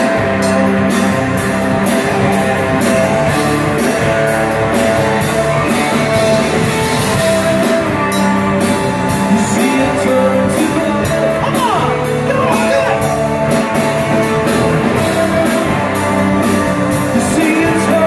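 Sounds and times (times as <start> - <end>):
drum kit: 0.0 - 18.0
electric guitars: 0.0 - 18.0.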